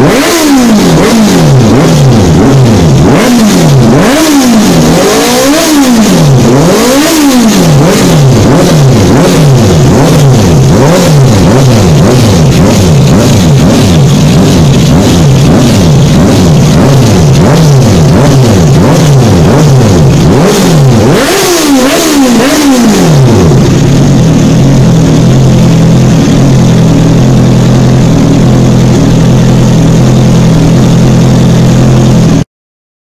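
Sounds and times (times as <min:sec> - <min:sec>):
motorcycle engine revving: 0:00.0 - 0:32.5
motorcycle engine idling: 0:00.1 - 0:32.4.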